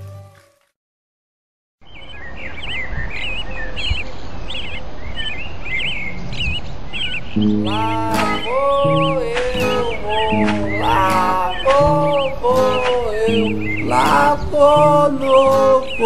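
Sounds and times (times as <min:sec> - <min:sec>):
small bird chirping: 0:01.8 - 0:16.0.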